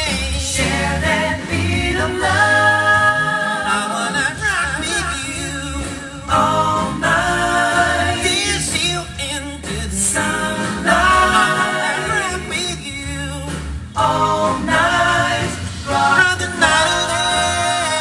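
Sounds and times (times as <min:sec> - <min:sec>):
steady bass line: 0:00.0 - 0:18.0.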